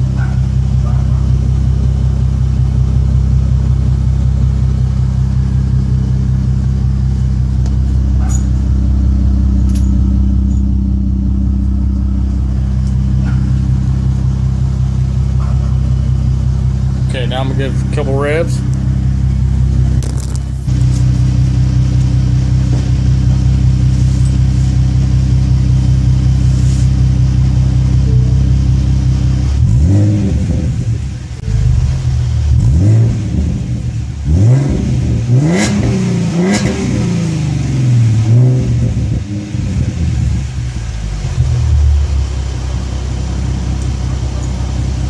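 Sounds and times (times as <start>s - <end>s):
car engine idling: 0.0s - 45.0s
engine revving in throttle blips: 0.0s - 45.0s.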